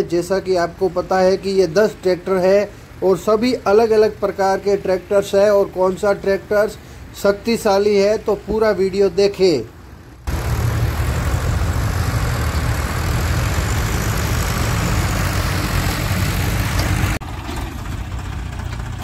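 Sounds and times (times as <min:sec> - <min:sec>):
tractor engines droning: 0:00.0 - 0:09.1, 0:10.3 - 0:19.0.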